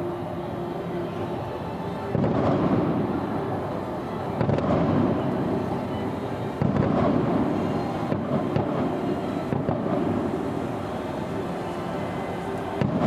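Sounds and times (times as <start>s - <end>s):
fireworks crackle: 1.1s - 13.0s
distant fireworks booming: 2.0s - 13.0s.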